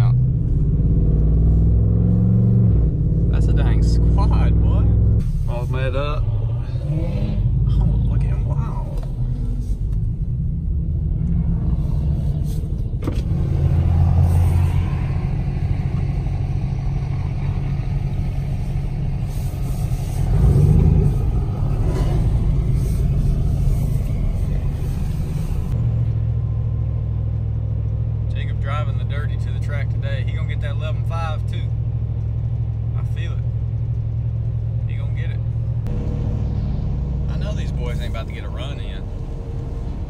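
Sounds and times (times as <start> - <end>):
truck engines rumbling: 0.0 - 40.0.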